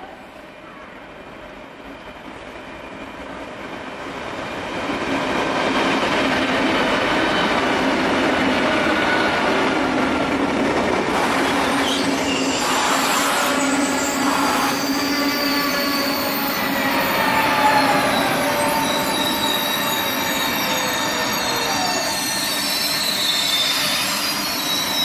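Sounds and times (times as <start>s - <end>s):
train wheels rumbling on rails: 1.3s - 25.0s.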